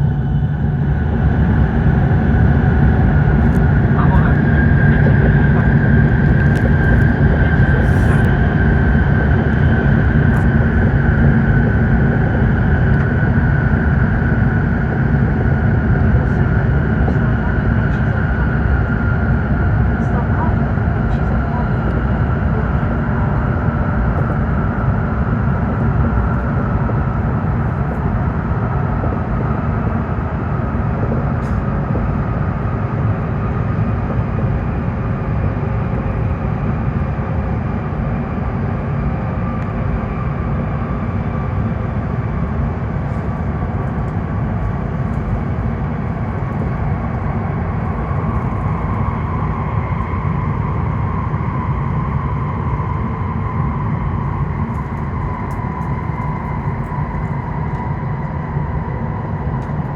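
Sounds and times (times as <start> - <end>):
faint whine falling in pitch: 0.0 - 59.9
train cabin low rumble: 0.0 - 59.9.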